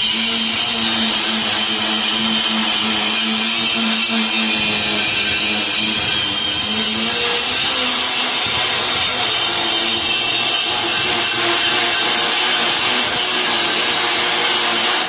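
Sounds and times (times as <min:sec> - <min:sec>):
power tool grinding steel: 0:00.0 - 0:15.0.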